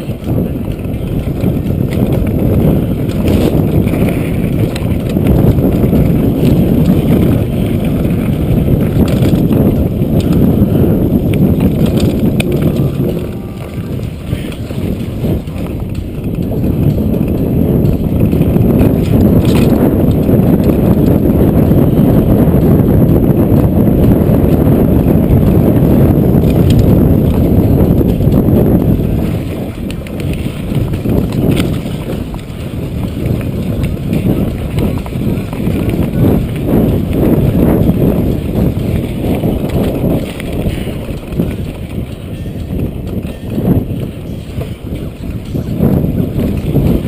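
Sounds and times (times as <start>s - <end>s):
clicks and clatters from bumps: 0.0s - 22.1s, 26.3s - 47.0s
mountain bike rattle and tyre noise: 0.0s - 47.0s
wind rumble on microphone: 0.0s - 47.0s.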